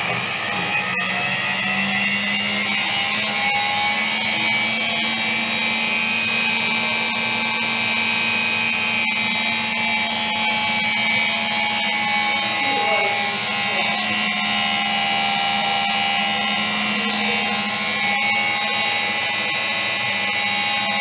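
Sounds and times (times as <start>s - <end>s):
washing machine motor whining: 0.0s - 21.0s.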